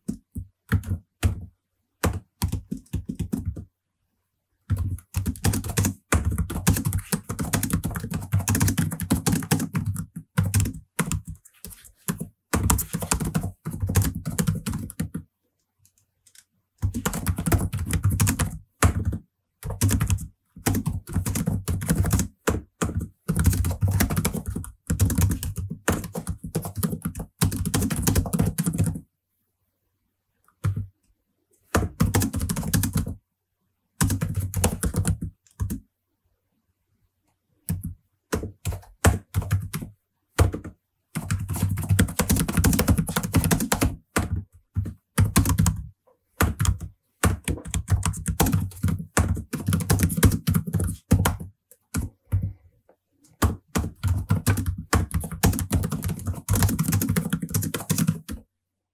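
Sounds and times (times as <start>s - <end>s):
fast keyboard typing: 0.0s - 3.7s, 4.7s - 15.3s, 16.2s - 29.0s, 31.7s - 33.2s, 34.0s - 35.8s, 37.7s - 52.6s, 53.4s - 58.4s.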